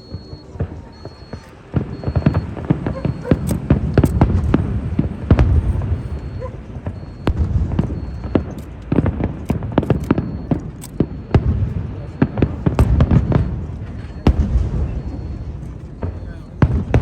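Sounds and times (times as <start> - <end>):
fireworks bangs and booms: 0.0 - 17.0.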